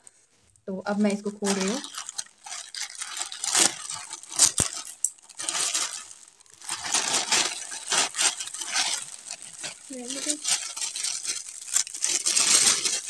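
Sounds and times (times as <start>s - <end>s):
plastic bag crinkling: 0.9s - 13.0s.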